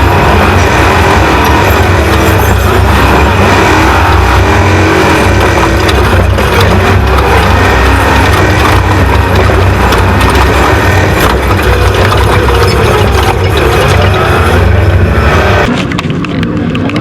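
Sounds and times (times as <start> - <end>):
knocks and rattles: 0.0 - 17.0
road noise: 0.0 - 17.0
truck engine running hard: 0.0 - 17.0.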